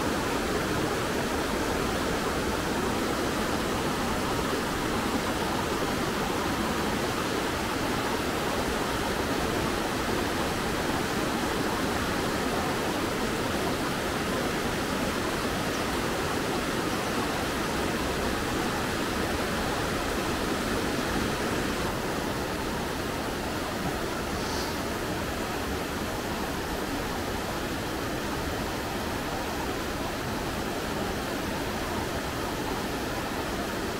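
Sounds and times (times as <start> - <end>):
stream rapids rushing over boulders: 0.0 - 33.9.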